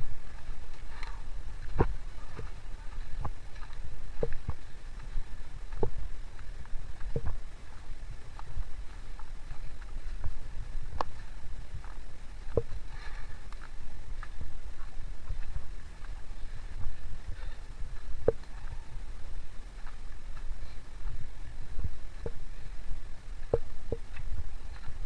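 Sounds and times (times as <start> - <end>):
footsteps on trail: 0.0 - 25.0
low microphone rumble: 0.0 - 25.0.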